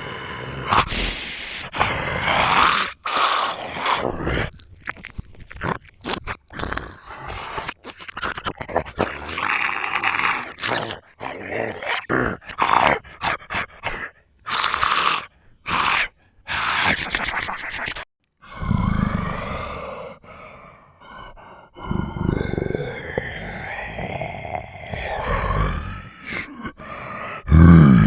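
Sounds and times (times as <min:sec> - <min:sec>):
zombie growls and grunts: 0:00.0 - 0:28.0.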